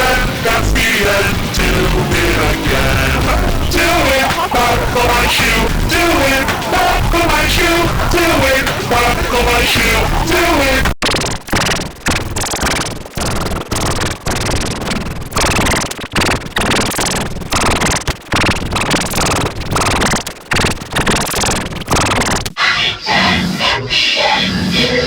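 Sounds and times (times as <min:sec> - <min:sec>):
harsh distorted stuttering noise: 0:00.0 - 0:25.0.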